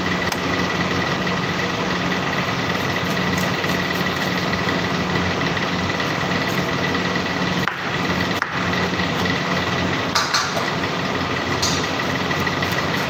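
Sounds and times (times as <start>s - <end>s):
kitchen machinery drone: 0.0s - 13.0s.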